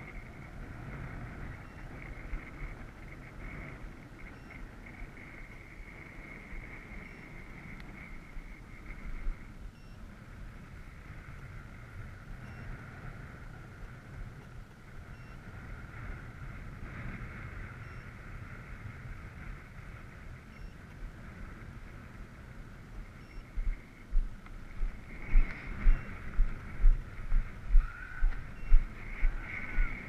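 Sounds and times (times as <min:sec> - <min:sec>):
model airplane propeller drone: 0:00.0 - 0:30.0
wind buffeting microphone: 0:00.0 - 0:30.0.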